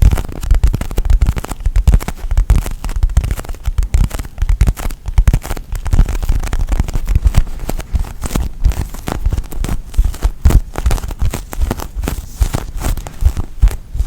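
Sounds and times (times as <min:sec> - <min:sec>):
foam toy squeezed crackling: 0:00.0 - 0:14.0.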